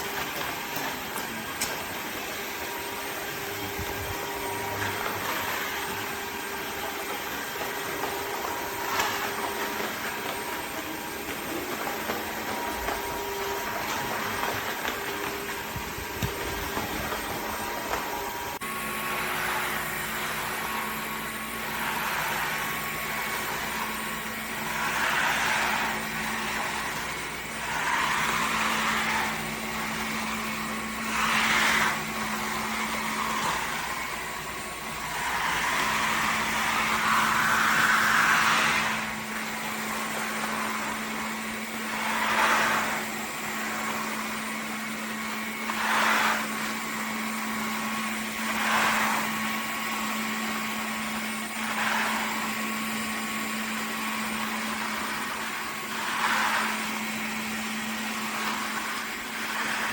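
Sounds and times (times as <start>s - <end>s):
vacuum mop motor hum: 0.0s - 59.9s
rushing suction noise: 3.4s - 59.9s.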